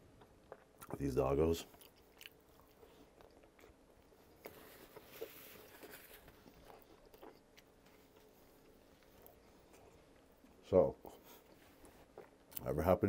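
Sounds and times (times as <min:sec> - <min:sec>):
faint chewing: 0:00.0 - 0:12.7.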